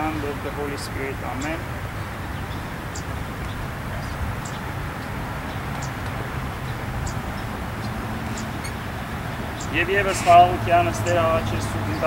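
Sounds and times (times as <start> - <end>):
high bird chirps: 1.3 - 11.1.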